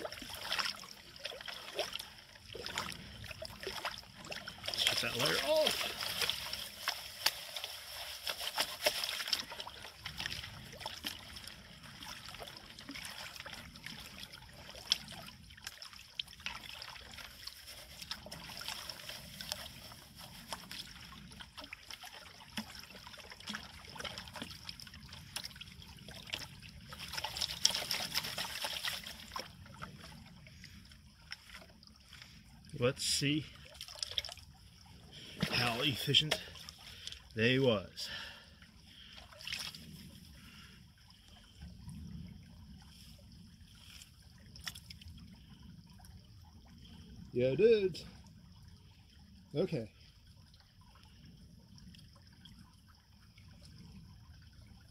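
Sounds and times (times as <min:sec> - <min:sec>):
water sloshing and trickling: 0:00.0 - 0:54.9.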